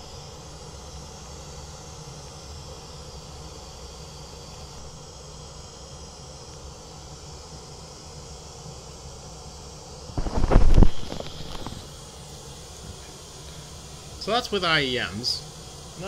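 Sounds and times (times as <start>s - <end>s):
pink noise hiss: 0.0s - 16.0s.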